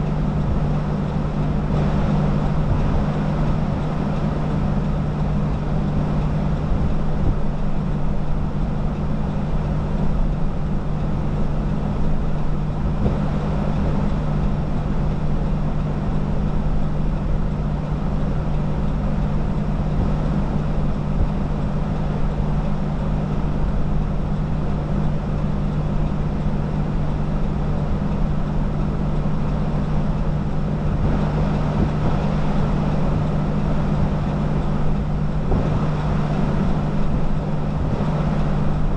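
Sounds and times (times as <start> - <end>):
vehicle cabin road and engine noise: 0.0 - 38.9.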